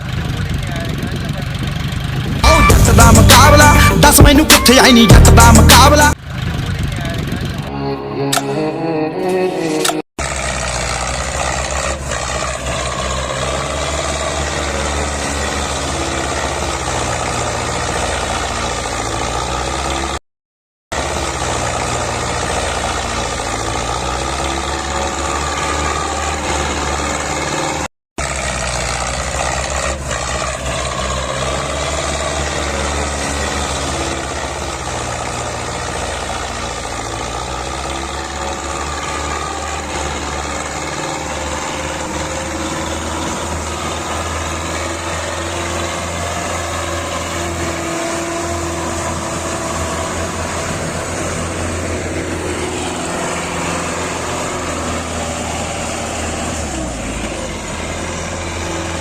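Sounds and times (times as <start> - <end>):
diesel tractor engines under load: 0.0 - 20.2, 20.9 - 59.0.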